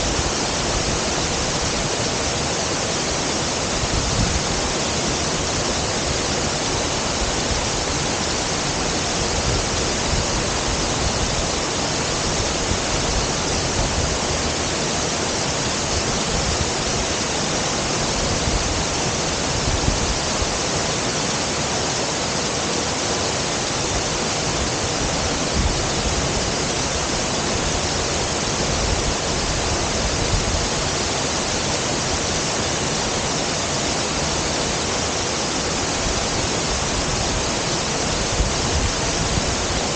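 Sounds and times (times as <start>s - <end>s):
waterfall crashing into pool: 0.0s - 39.9s.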